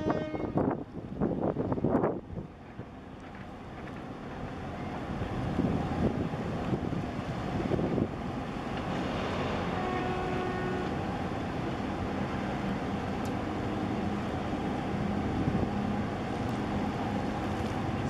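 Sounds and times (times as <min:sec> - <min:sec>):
container ship rumble: 0:00.0 - 0:18.0
water noise: 0:00.0 - 0:18.0
wind: 0:00.0 - 0:18.0.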